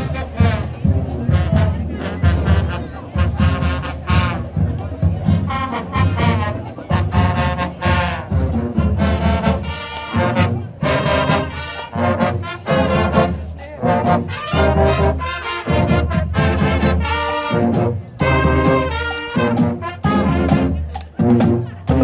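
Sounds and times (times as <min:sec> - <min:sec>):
marching brass band playing: 0:00.0 - 0:22.0
steady drum beat: 0:00.0 - 0:22.0.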